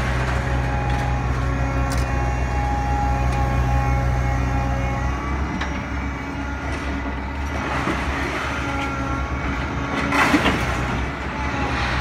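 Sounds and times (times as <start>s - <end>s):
excavator diesel engine running: 0.0s - 12.0s
scrap metal crunching and scraping: 0.0s - 12.0s.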